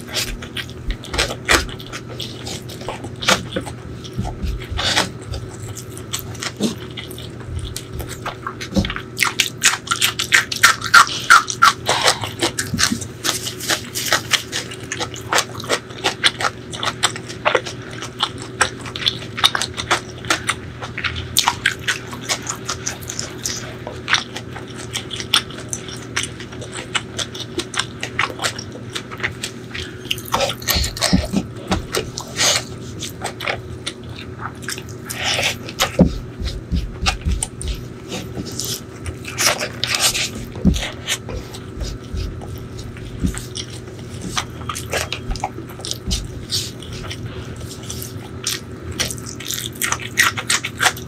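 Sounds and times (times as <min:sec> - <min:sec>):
wet chewing with mouth clicks: 0:00.0 - 0:51.0.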